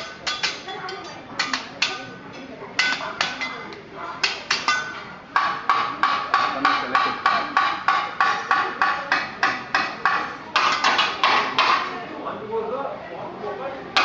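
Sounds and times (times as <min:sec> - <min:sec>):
metal spatula and fork clanking: 0:00.0 - 0:11.9.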